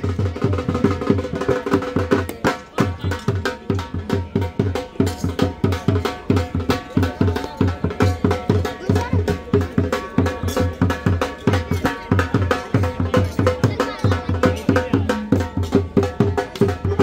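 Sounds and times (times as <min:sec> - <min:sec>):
dhol drum beating: 0:00.0 - 0:17.0.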